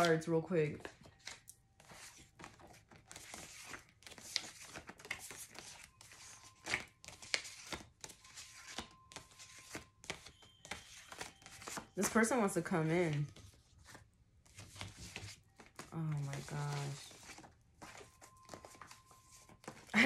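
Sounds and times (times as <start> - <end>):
cards sliding and rustling: 1.1 - 19.9.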